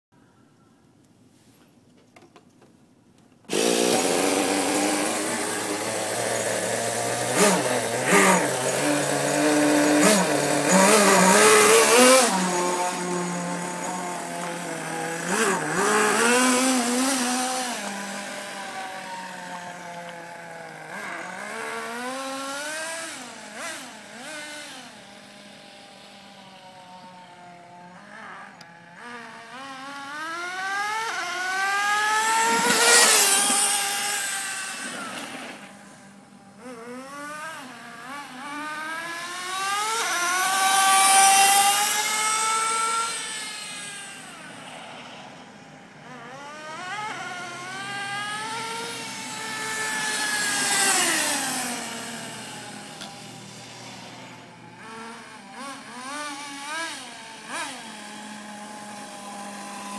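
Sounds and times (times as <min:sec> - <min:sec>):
model truck engine revving: 0:03.5 - 0:59.9.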